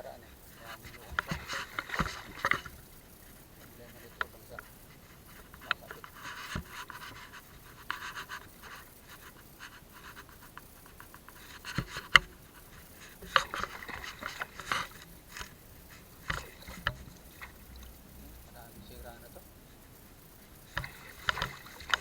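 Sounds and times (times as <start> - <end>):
fishing net splashing in water: 0.5 - 9.0, 10.3 - 22.0.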